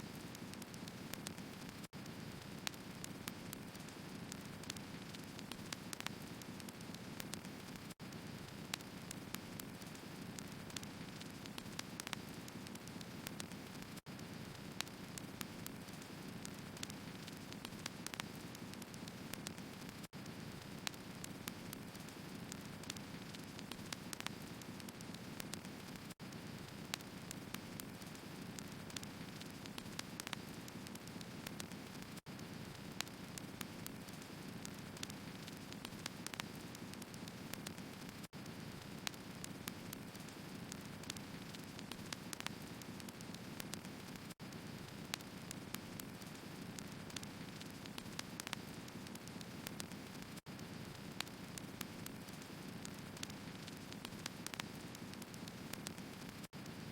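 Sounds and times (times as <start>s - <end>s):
firewood crackling and popping: 0.1s - 56.8s.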